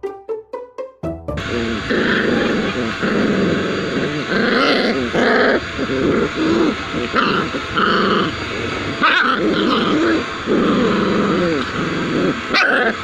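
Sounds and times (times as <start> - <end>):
puppies growling and yipping: 1.4 - 13.0.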